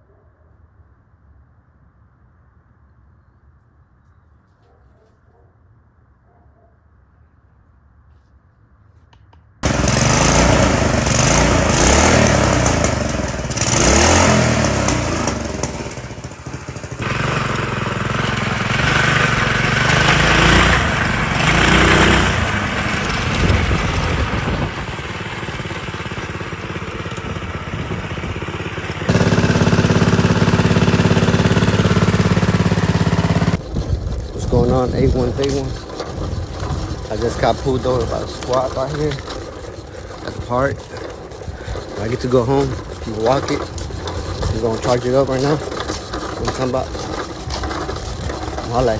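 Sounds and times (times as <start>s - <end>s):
mini bike engine running: 9.6s - 48.9s.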